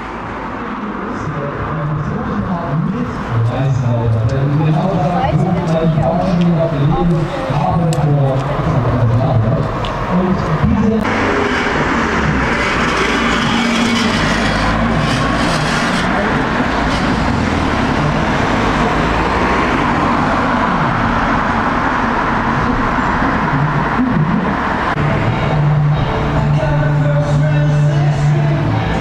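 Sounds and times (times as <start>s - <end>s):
bus diesel engines running: 0.0s - 29.0s
road traffic noise: 0.0s - 29.0s.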